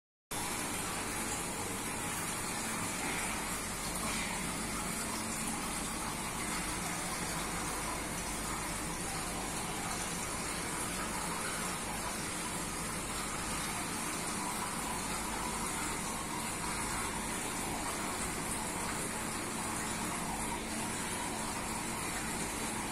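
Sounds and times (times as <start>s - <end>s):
aquarium filter water rushing: 0.3s - 22.9s.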